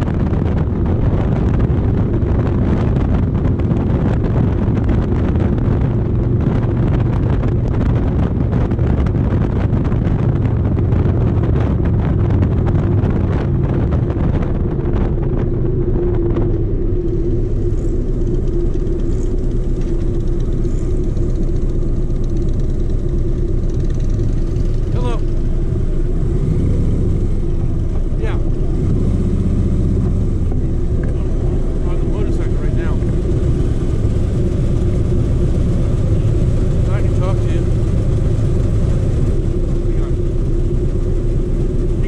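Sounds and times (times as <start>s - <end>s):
motorcycle engine running: 0.0s - 42.0s
wind and road rush: 0.0s - 42.0s.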